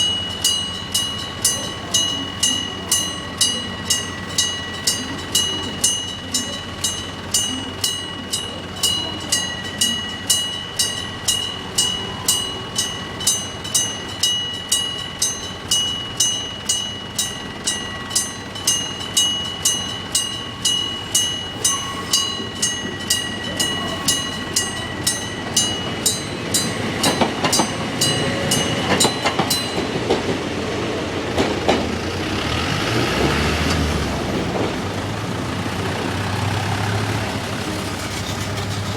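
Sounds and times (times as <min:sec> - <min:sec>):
level crossing bell ringing: 0:00.0 - 0:31.4
train rumble and wheel knocks: 0:00.0 - 0:38.9.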